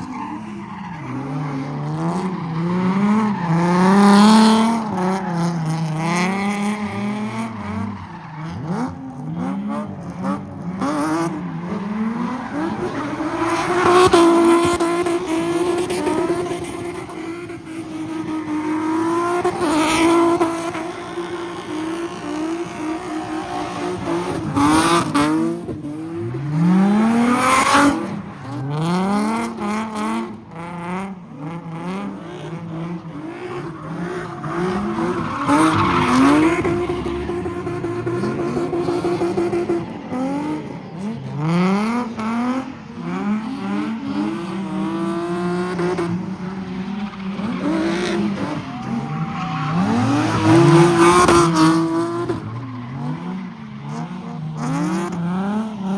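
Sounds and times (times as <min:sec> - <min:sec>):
car engine revving hard: 0:01.2 - 0:55.9.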